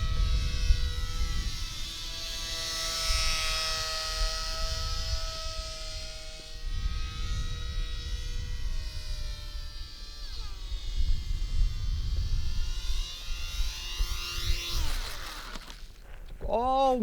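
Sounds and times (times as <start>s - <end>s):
wind rumble on microphone: 0.0s - 15.4s
model plane motors whining: 0.0s - 16.4s.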